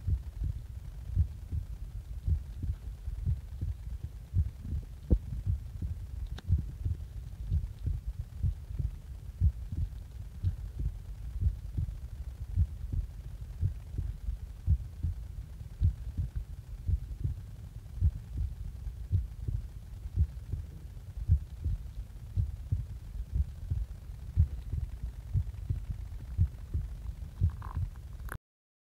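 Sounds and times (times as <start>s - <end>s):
heartbeat thumps: 0.0s - 28.3s.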